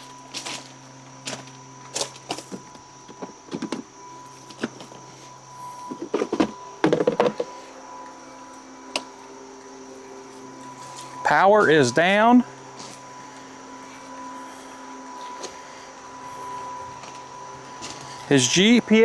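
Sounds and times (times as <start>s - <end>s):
footsteps on patio and grass: 0.0s - 19.0s
steady hum: 0.0s - 19.0s.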